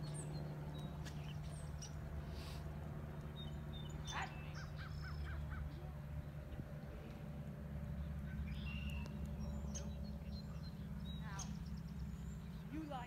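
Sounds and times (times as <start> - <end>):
birds calling and chirping: 0.0 - 13.0.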